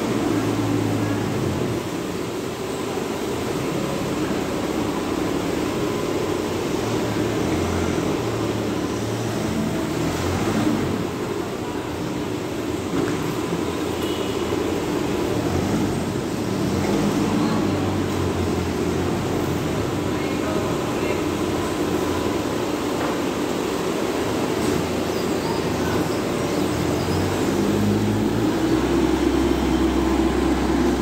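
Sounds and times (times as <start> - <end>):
forklift engine running: 0.0 - 31.0.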